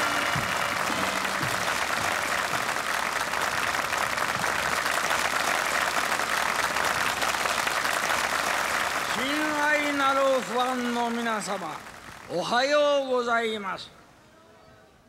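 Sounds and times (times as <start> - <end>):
crowd applauding: 0.0 - 12.7.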